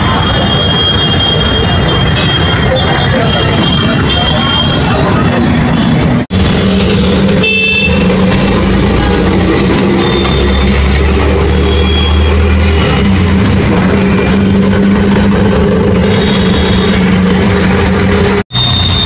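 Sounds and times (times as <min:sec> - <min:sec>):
road and traffic noise: 0:00.0 - 0:19.0.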